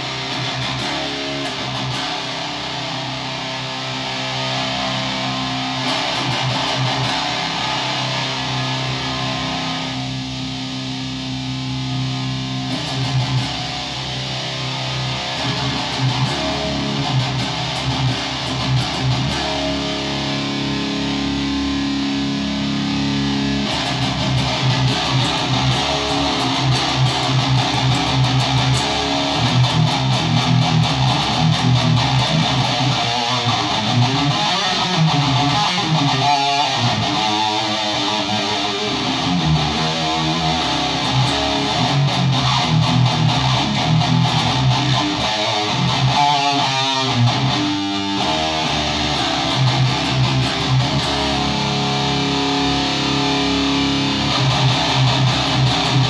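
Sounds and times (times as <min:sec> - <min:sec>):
distorted electric guitar riffing: 0:00.0 - 0:56.0.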